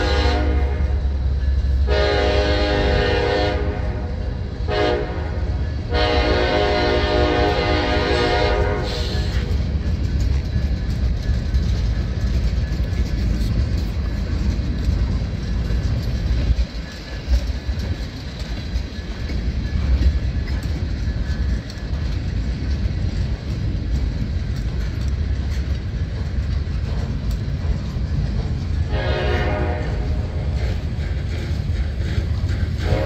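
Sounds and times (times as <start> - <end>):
freight train wheels rumbling: 0.0 - 33.0
clatter over rail joints: 5.0 - 33.0.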